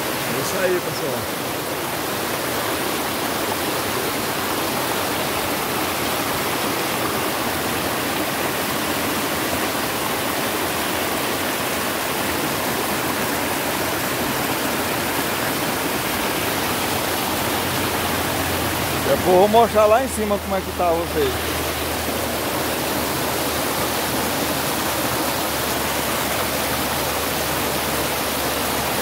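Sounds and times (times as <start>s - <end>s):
creek water rushing over rocks: 0.0s - 29.0s.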